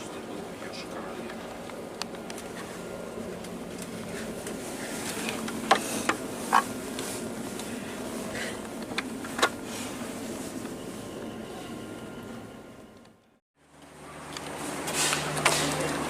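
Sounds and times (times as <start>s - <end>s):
electric train buzzing hum: 0.0s - 16.0s.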